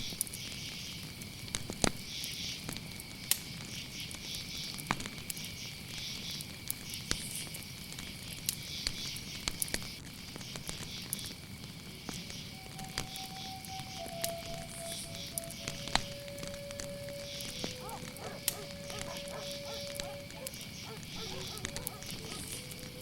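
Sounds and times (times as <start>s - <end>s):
campfire crackling and popping: 0.0s - 23.0s
crickets chirping: 0.0s - 23.0s.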